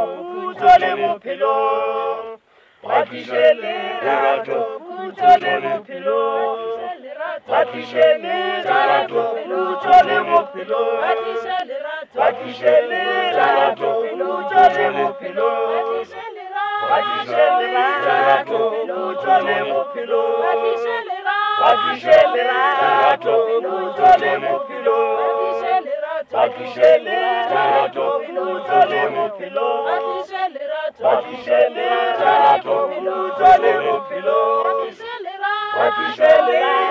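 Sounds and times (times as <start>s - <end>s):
choir singing a cappella: 0.0s - 36.9s.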